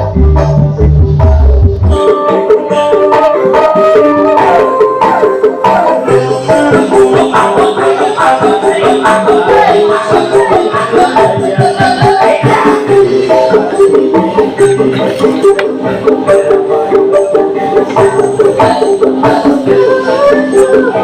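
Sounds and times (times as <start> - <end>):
loud music with fast percussion: 0.0 - 21.0.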